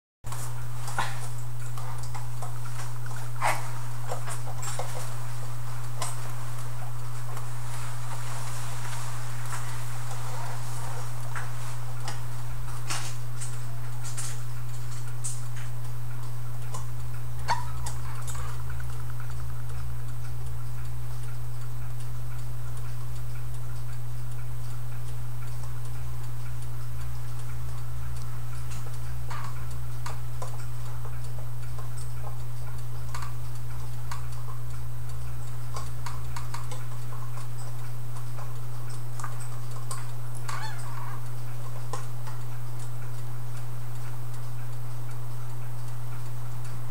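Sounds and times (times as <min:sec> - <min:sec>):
clock ticking: 0:00.3 - 0:46.9
steady low hum: 0:00.3 - 0:46.9.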